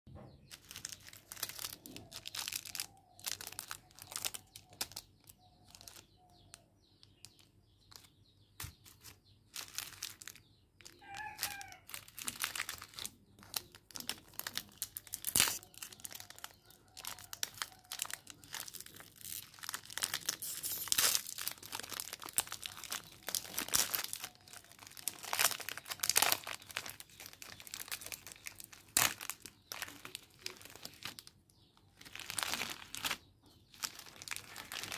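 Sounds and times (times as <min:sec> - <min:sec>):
plastic wrappers crinkling: 0:00.5 - 0:34.9.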